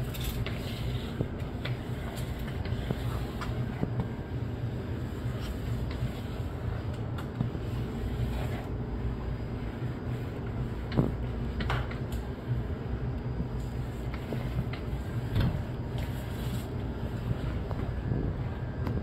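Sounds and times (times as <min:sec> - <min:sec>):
kitchen machinery hum: 0:00.0 - 0:19.0.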